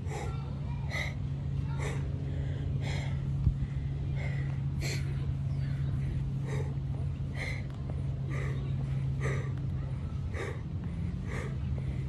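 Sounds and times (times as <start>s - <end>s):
man breathing hard: 0.0s - 5.2s, 6.0s - 12.0s
steady low hum: 0.0s - 12.0s.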